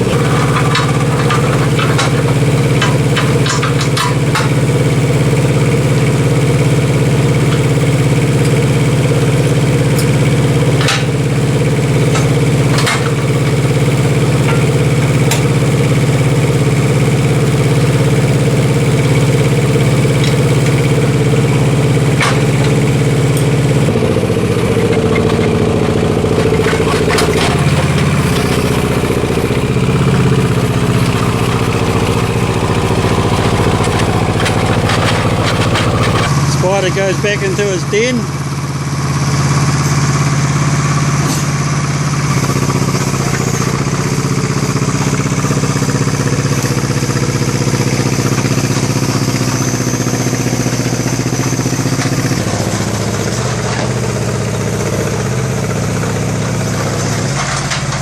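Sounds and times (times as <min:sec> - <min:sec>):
crane engine running: 0:00.0 - 0:58.0.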